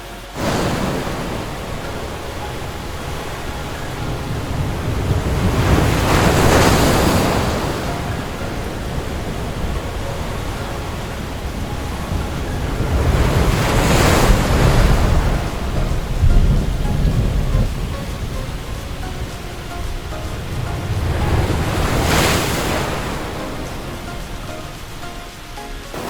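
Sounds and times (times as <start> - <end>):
low rumble of wind and water: 0.0 - 26.0
waves surging and breaking: 0.0 - 26.0.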